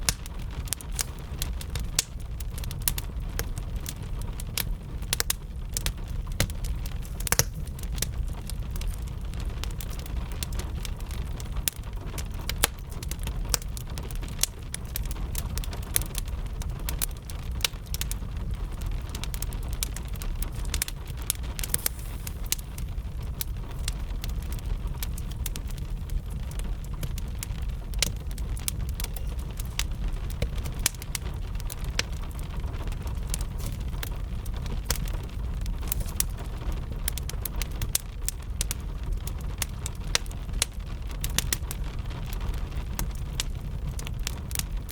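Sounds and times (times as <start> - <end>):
steady low rumble: 0.0 - 41.1
gentle rain: 0.0 - 44.9
wood fire crackling and popping: 0.0 - 44.9.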